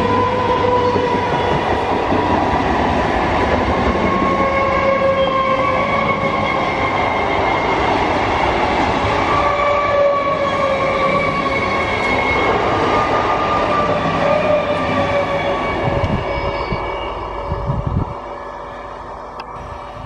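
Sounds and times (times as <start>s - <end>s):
distant train: 0.0s - 20.0s
train wheels rumbling: 0.0s - 20.0s
train whine: 0.0s - 20.0s.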